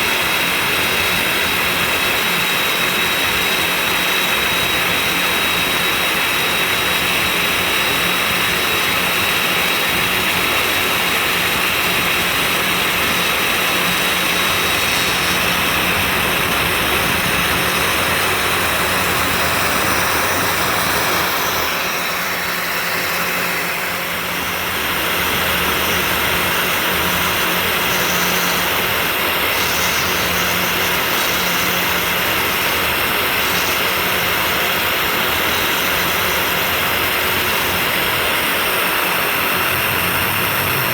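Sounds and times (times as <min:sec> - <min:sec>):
desktop router milling: 0:01.1 - 0:40.9.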